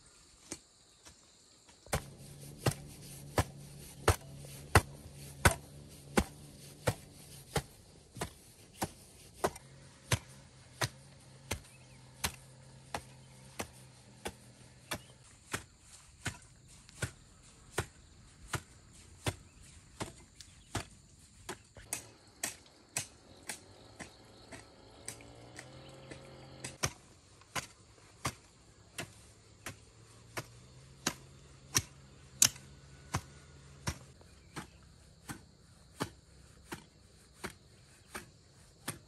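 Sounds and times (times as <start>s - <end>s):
hand tool chopping: 1.8s - 39.0s.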